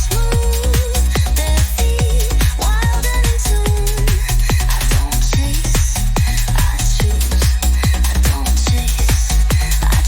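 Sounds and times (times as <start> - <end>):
kick drum beat: 0.0 - 10.0
sustained bass: 0.0 - 10.0.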